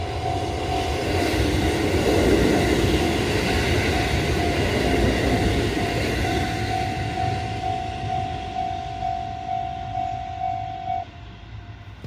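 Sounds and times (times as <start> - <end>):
electric train passing on rails: 0.0 - 12.0
level-crossing alarm dinging: 0.0 - 12.0.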